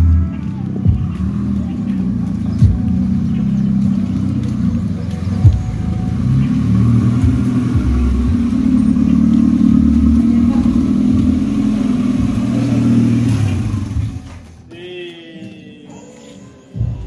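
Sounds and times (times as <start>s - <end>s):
car engine running at low revs: 0.0s - 14.6s.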